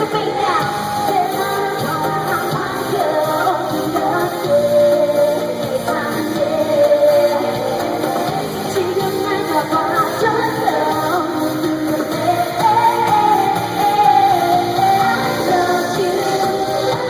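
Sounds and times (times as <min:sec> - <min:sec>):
women singing pop song: 0:00.0 - 0:17.0.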